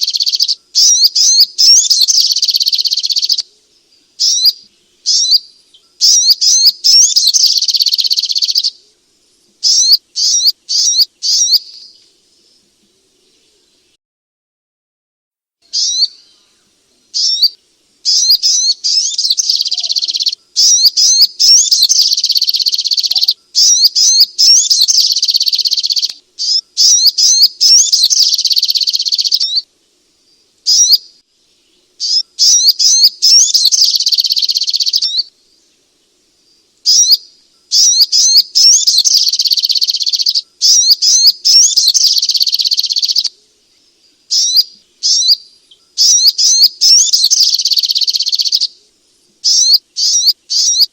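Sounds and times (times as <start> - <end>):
bird chattering song: 0.0 - 8.9, 9.6 - 12.6, 15.7 - 29.7, 30.3 - 35.8, 36.5 - 48.8, 49.4 - 50.9.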